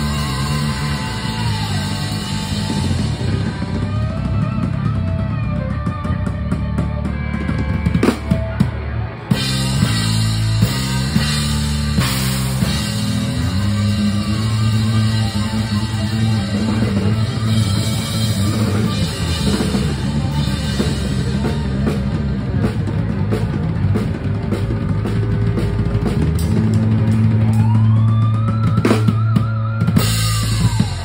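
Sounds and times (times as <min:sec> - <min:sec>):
drums and cymbals: 0:00.0 - 0:31.0
live rock band: 0:00.0 - 0:31.0
sustained bass notes: 0:00.0 - 0:31.0.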